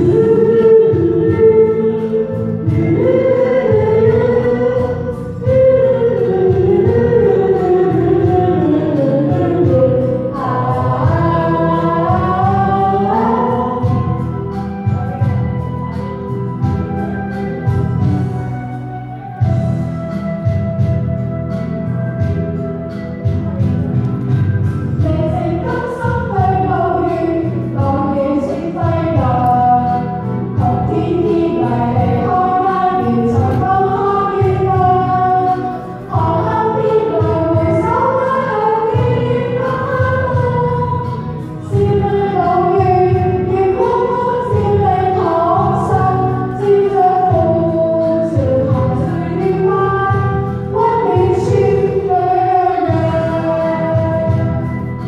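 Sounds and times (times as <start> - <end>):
woman singing into microphone: 0.0 - 19.6, 24.9 - 55.0
instrumental accompaniment: 0.0 - 55.0.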